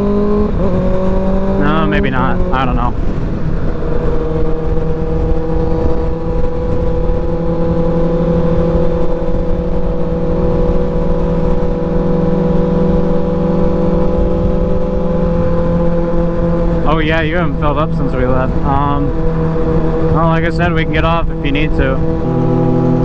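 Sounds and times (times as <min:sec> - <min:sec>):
motorcycle engine cruising: 0:00.0 - 0:23.0
wind buffeting microphone: 0:00.0 - 0:23.0.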